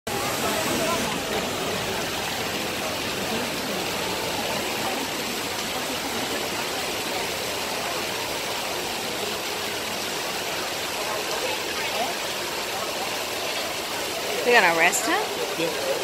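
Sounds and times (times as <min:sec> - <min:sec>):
fountain water rushing: 0:00.1 - 0:16.0
murmur of crowd talking: 0:00.1 - 0:16.0.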